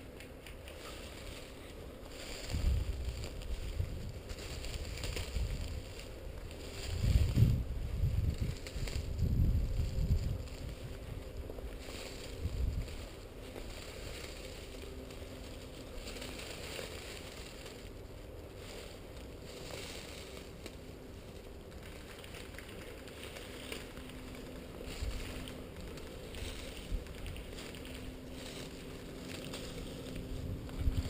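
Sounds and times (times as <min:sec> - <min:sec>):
soft rustling and crunching: 0:00.0 - 0:31.0
steady low hiss: 0:00.0 - 0:31.0.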